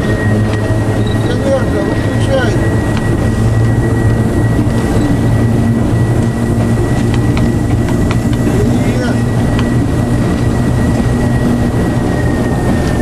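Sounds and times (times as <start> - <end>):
diesel engine deep drone: 0.0 - 13.0
high-pitched whine: 0.0 - 13.0.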